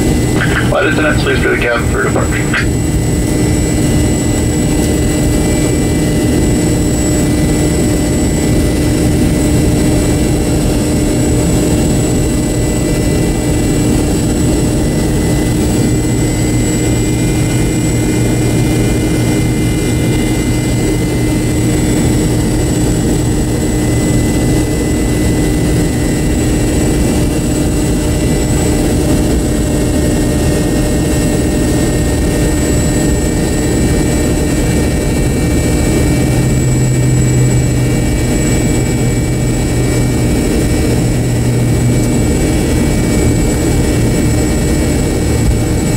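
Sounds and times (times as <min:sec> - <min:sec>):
jet engine drone with high whine: 0:00.0 - 0:45.9.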